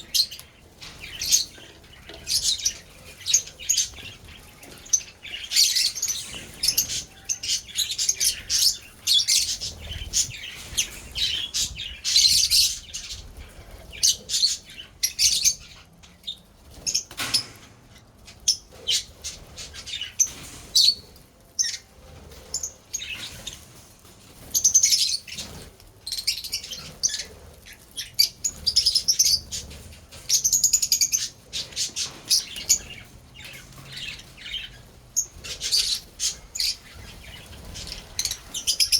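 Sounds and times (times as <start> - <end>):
lovebirds chattering: 0.0 - 38.9.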